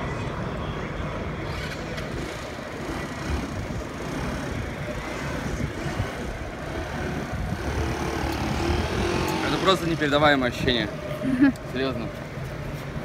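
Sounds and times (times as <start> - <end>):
low rumbling street noise: 0.0 - 13.0.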